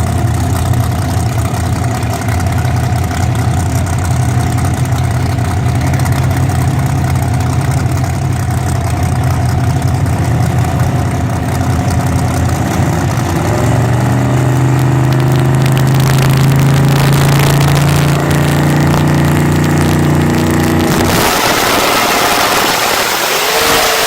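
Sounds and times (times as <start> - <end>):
drag car engine idling roughly: 0.0 - 24.0.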